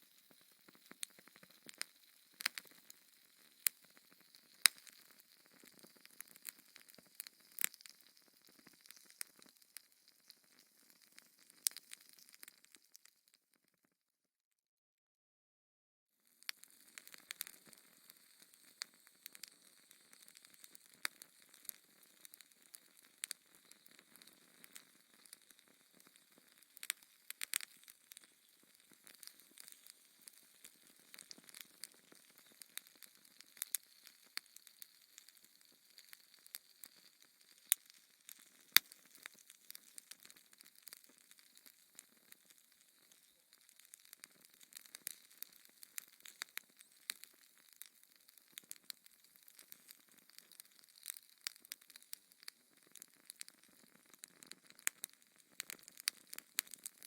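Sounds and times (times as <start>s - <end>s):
wood fire crackling: 0.0s - 13.1s, 16.4s - 57.0s.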